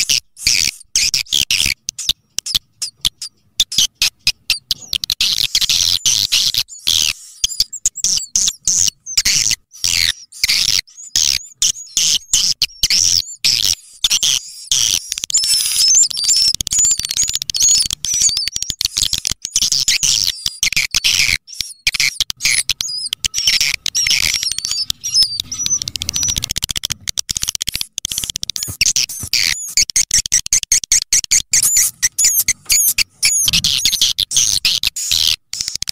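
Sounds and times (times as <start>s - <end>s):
swiftlet chirping through speakers: 0.0s - 26.5s, 31.2s - 35.8s.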